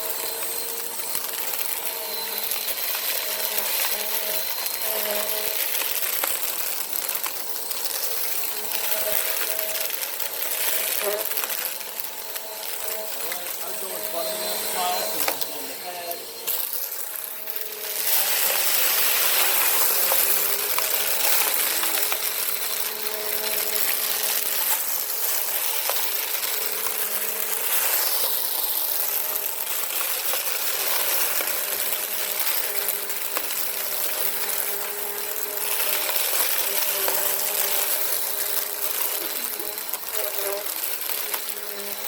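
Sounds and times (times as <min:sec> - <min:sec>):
grit rattling through vacuum: 0:00.0 - 0:42.0
vacuum cleaner running over carpet: 0:00.0 - 0:42.0.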